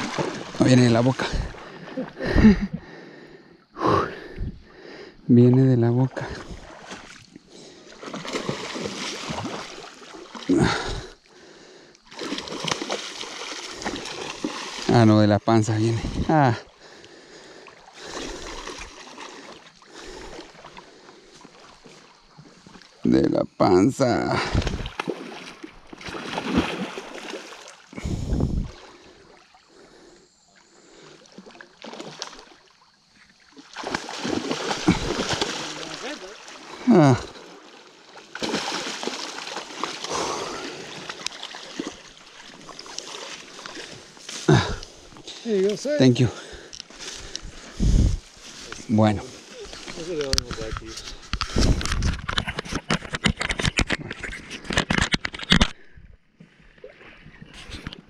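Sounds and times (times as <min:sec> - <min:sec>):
water splashing: 0:00.0 - 0:02.7, 0:05.5 - 0:11.2, 0:12.1 - 0:23.0, 0:24.3 - 0:52.0.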